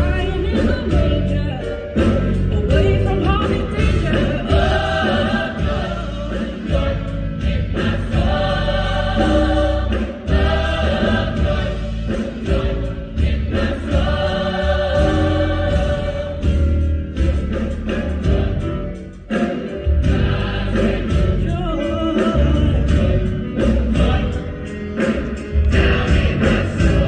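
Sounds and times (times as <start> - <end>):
choir singing gospel song: 0.0 - 27.0
instrumental accompaniment with bass: 0.0 - 27.0.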